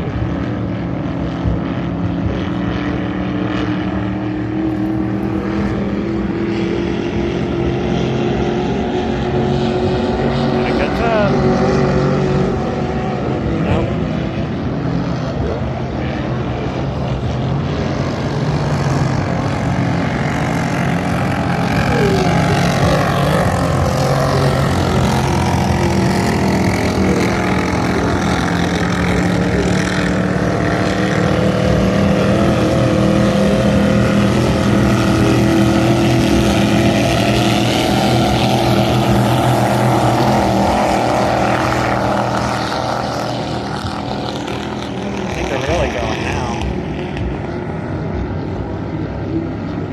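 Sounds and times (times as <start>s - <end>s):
speedboat engines droning: 0.0s - 49.9s.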